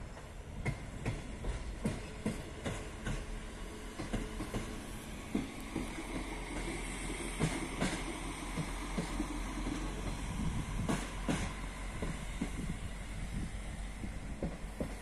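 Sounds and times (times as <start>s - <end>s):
railcar diesel engine running: 0.0s - 15.0s
wheels clacking over rail joints: 0.0s - 15.0s.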